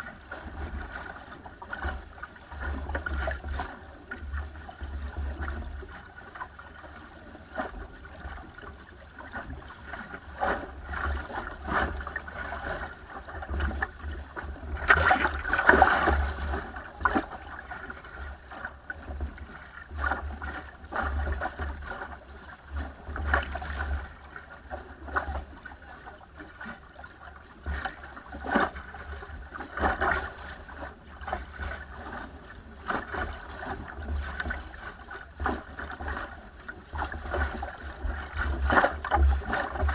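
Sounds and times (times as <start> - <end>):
water splashing against a hull: 0.0 - 39.9
wind rumble on microphone: 0.0 - 39.9.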